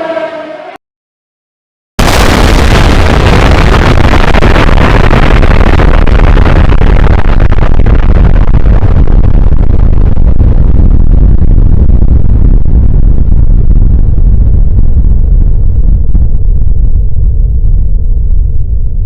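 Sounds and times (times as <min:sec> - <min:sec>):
loud distorted bass noise: 0:00.0 - 0:00.8, 0:02.0 - 0:19.0.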